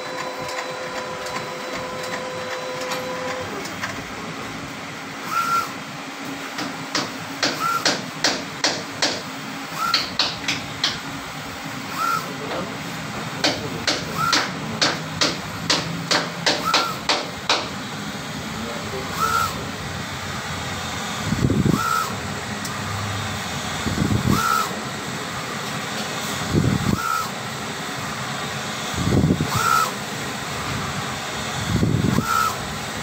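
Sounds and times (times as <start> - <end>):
printer hum: 0.0 - 33.0
printer whine: 0.0 - 33.0.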